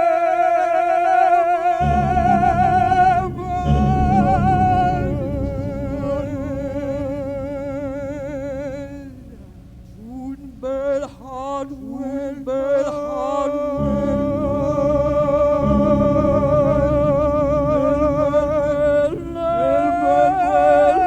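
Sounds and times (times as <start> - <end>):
wordless singing with vibrato: 0.0 - 21.0
low rumbling noise drone: 1.7 - 21.0
steady low drone: 1.8 - 21.0.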